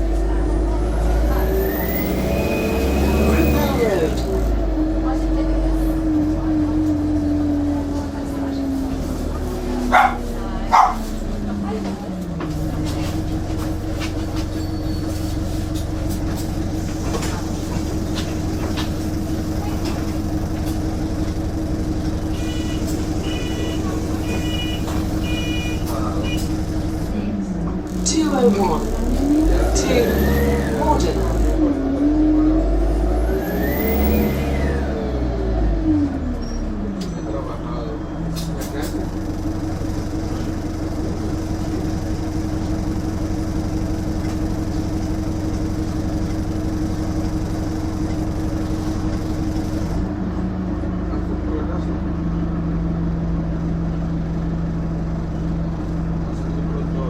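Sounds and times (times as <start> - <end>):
bus engine droning hum: 0.0 - 57.0.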